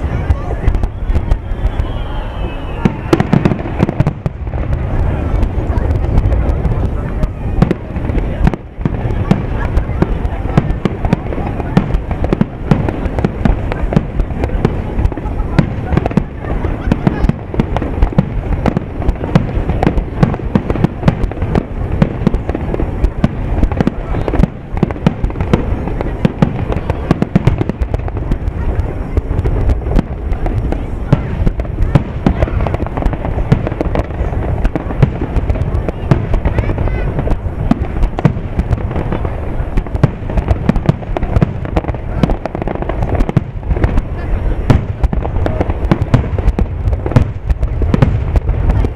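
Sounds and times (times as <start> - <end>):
fireworks bursting with sharp bangs: 0.0 - 48.9
low rumble of booms: 2.8 - 48.9.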